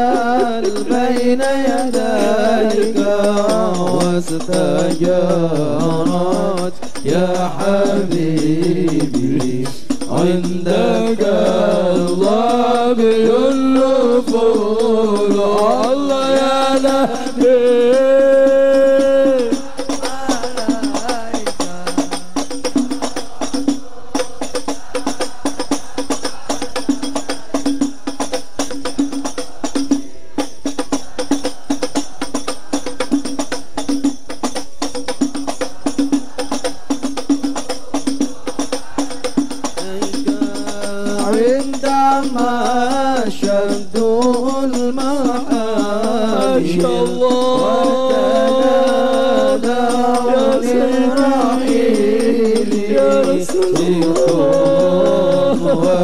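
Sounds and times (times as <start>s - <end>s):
frame drums beating: 0.0s - 56.0s
voices singing: 0.0s - 56.0s.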